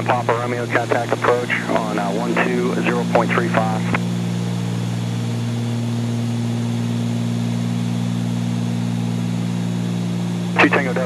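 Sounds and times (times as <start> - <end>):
airplane engines droning in cabin: 0.0 - 11.0.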